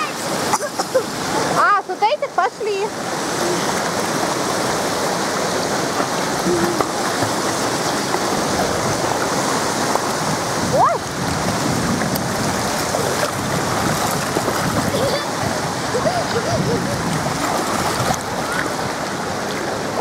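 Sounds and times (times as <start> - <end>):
falling and splashing water: 0.0 - 20.0.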